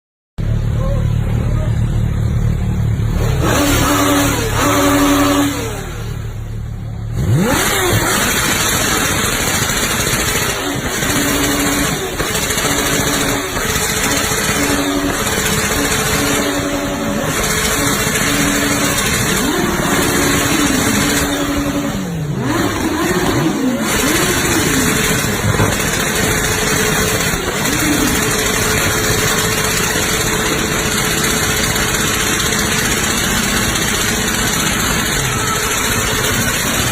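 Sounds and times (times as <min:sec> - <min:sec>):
motorcycle engine revving: 0:00.4 - 0:36.9.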